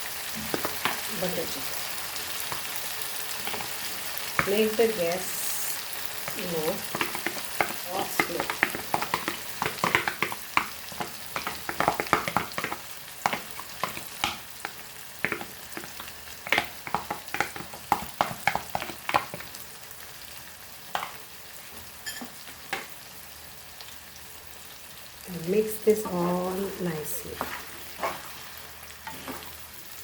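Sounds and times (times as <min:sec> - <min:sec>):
paste sizzling in hot oil: 0:00.0 - 0:30.0.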